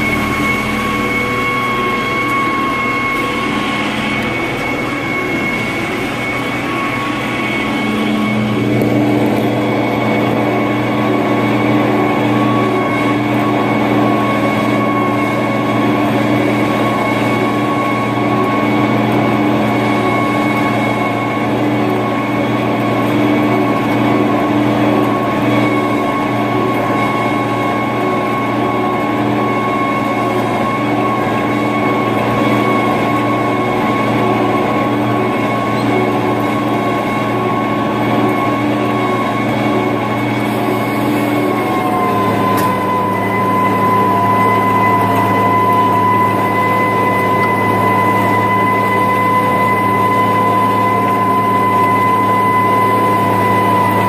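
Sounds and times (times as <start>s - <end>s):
steady whine: 0.0s - 54.0s
tractor diesel engine under load: 0.0s - 54.0s.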